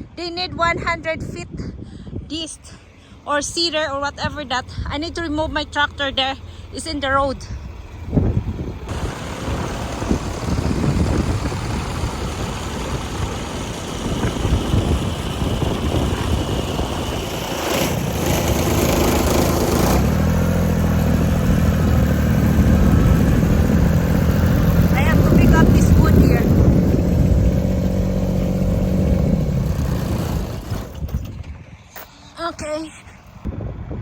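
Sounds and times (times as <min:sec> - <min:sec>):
tractor engine running: 0:02.7 - 0:33.4.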